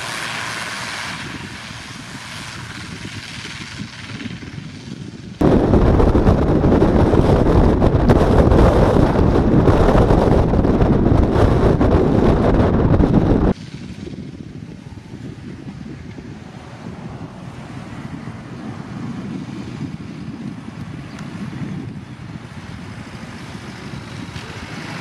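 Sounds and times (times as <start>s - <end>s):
turboprop engines running: 0.0s - 25.0s
wind buffeting microphone: 0.0s - 25.0s.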